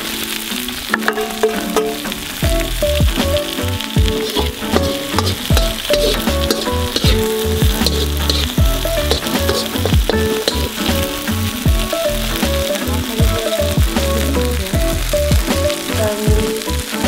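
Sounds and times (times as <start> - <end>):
background music with steady beat: 0.0 - 17.0
chicken sizzling on a griddle: 0.0 - 17.0.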